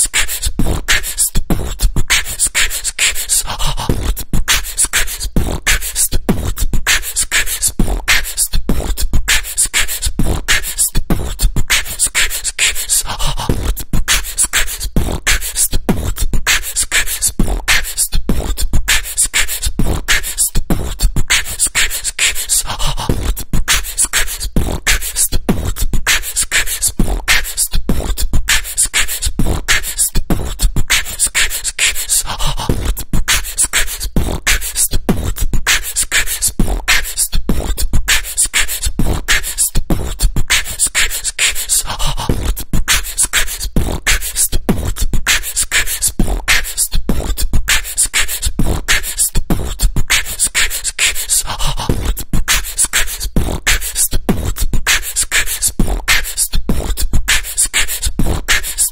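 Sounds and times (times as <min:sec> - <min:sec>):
vocal beatbox loop: 0:00.0 - 0:58.9.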